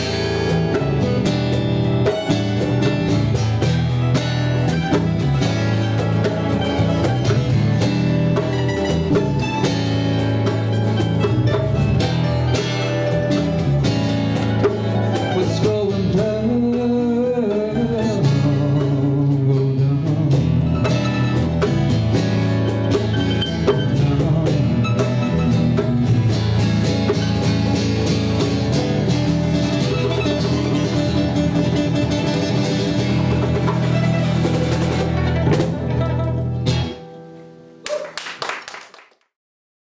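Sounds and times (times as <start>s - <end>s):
drum kit beat: 0.0s - 37.1s
bending guitar melody: 0.0s - 37.8s
live band playing instrumental: 0.0s - 38.6s.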